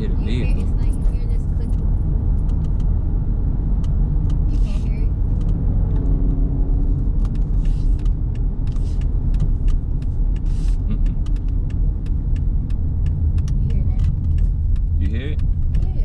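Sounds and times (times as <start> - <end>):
engine and road noise rumble: 0.0 - 16.0.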